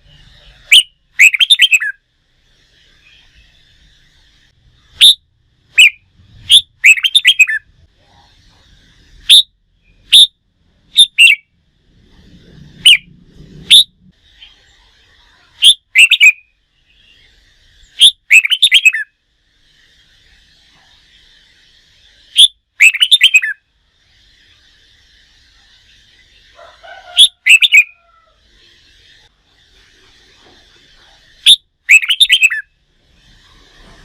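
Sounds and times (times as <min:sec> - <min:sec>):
bulbul singing sharp phrases: 0:00.0 - 0:11.6, 0:12.3 - 0:29.3, 0:31.1 - 0:33.8
faint bird twittering: 0:00.0 - 0:34.0.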